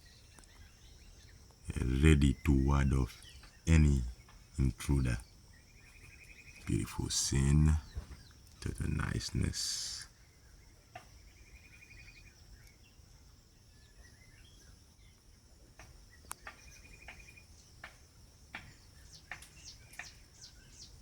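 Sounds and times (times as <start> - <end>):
faint bird chirps and trills: 0.0 - 21.0.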